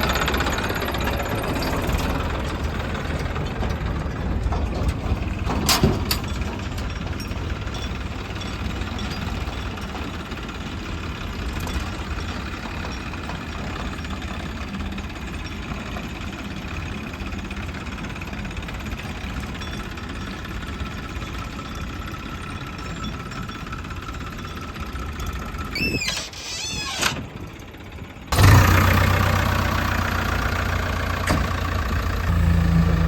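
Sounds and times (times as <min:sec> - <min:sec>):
diesel engine idling: 0:00.0 - 0:25.8, 0:27.3 - 0:33.0.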